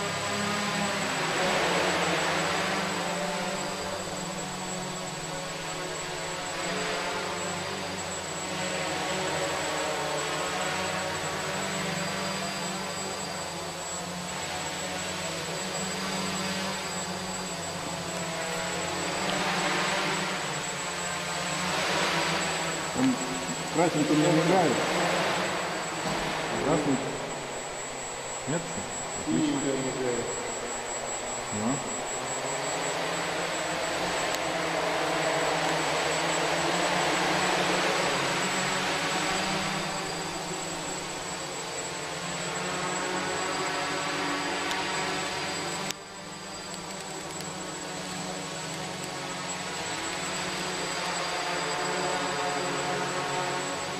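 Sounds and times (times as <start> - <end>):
model aircraft motor whine: 0.0 - 53.9.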